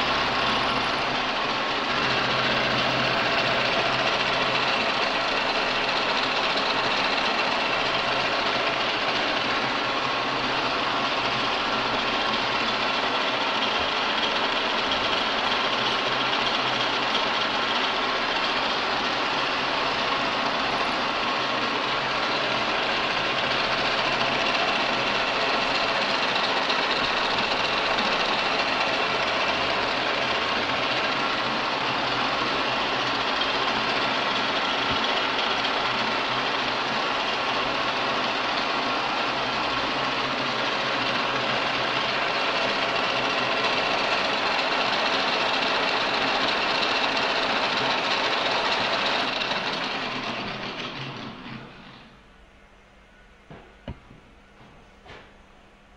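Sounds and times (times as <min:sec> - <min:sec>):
milling machine whirring: 0:00.0 - 0:52.4.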